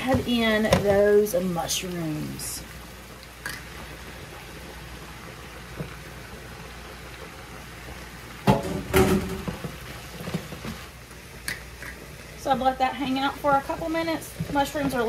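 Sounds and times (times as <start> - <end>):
food sizzling in a skillet: 0.0 - 15.0.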